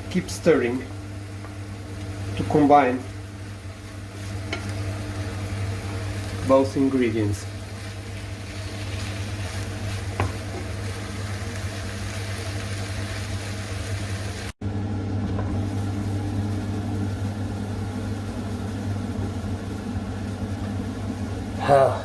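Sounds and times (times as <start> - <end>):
food sizzling in a pan: 0.0 - 14.6, 15.5 - 22.0.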